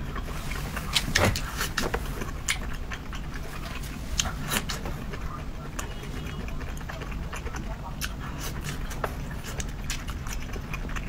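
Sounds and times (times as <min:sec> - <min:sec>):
chewing and lip smacking: 0:00.0 - 0:11.0
low steady hum: 0:00.0 - 0:11.0.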